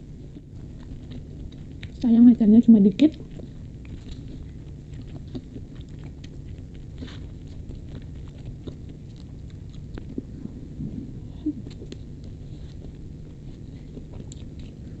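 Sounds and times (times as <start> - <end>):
close-up chewing: 0.0 - 15.0
low steady hum: 0.0 - 15.0.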